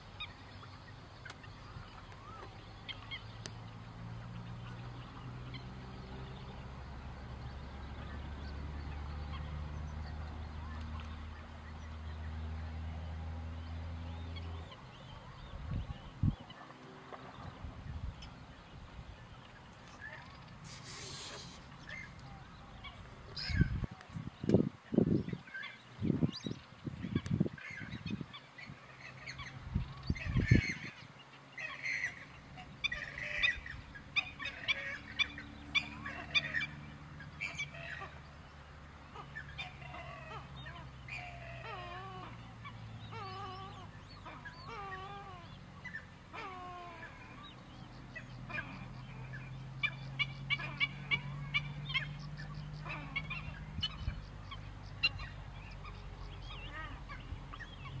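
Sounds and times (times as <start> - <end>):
wetland birds calling: 0.0 - 13.0, 13.6 - 58.0.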